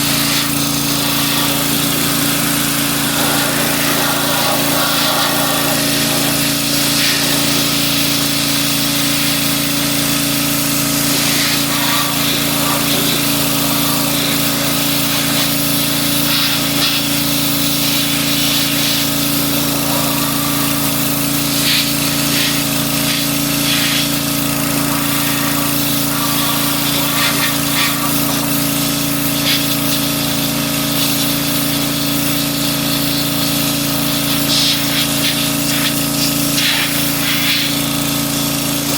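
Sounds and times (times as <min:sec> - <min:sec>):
motor humming: 0:00.0 - 0:38.9.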